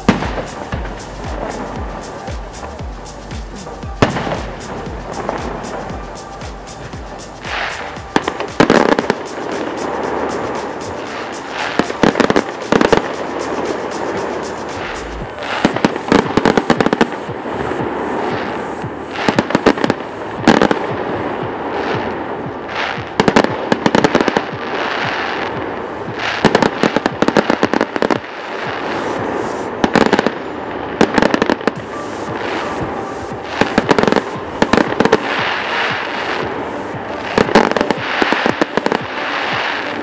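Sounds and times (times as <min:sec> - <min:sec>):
background din: 0:00.0 - 0:40.0
fireworks bangs and crackling: 0:00.0 - 0:40.0.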